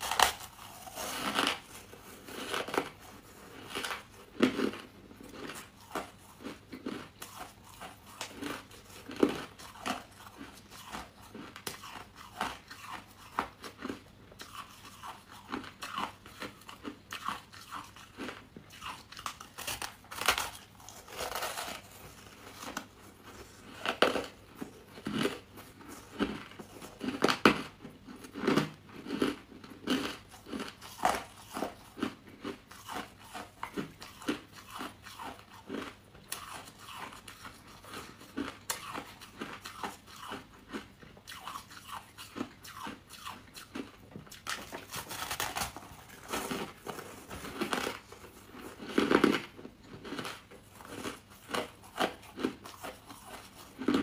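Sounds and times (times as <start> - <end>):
crunchy food chewing: 0.0 - 54.0.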